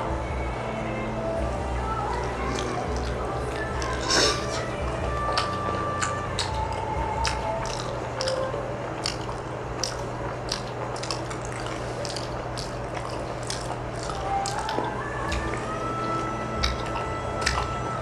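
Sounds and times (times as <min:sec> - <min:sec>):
steady low hum: 0:00.0 - 0:18.0
wet chewing mouth noises: 0:02.1 - 0:18.0.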